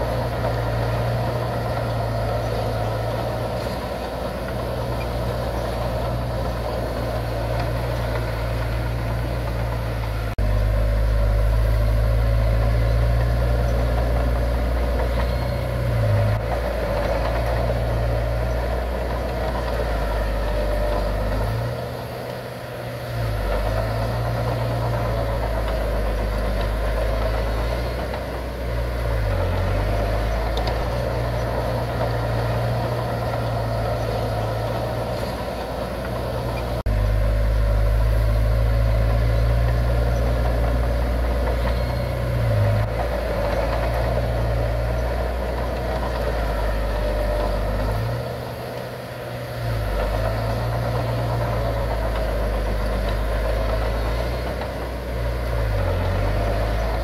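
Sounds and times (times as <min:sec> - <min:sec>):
heavy machinery diesel rumble: 0:00.0 - 0:57.0.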